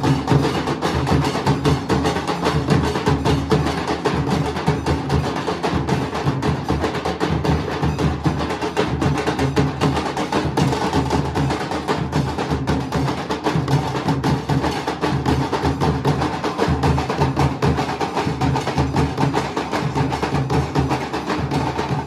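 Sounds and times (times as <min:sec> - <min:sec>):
barrel drums beaten with sticks: 0:00.0 - 0:22.0.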